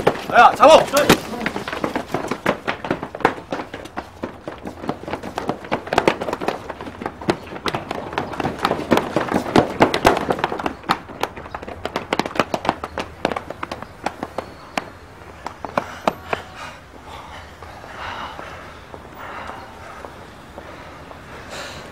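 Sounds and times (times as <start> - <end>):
running footsteps on pavement: 0.0 - 21.9.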